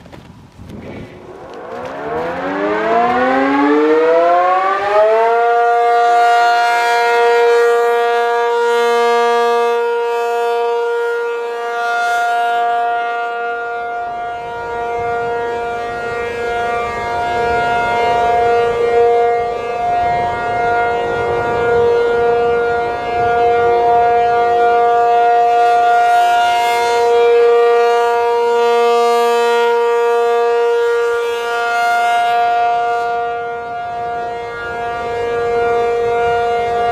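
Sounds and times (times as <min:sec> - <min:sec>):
rotating warning siren wailing: 0:01.0 - 0:36.9.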